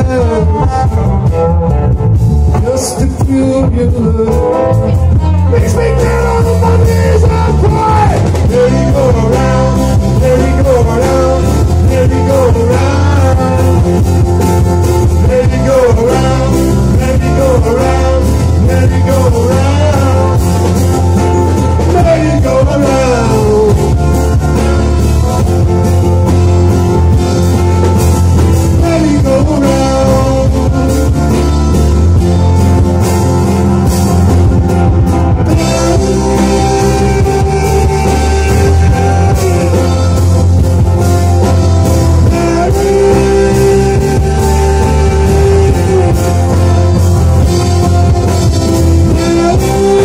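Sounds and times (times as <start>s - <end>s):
person singing: 0.0s - 1.8s, 2.5s - 24.7s, 28.6s - 31.6s, 35.4s - 50.0s
electric bass line: 0.0s - 50.0s
acoustic guitars strumming: 5.0s - 50.0s.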